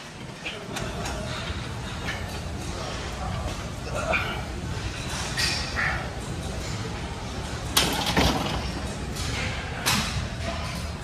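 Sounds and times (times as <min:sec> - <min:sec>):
low rumble of gym hall: 0:00.0 - 0:11.0.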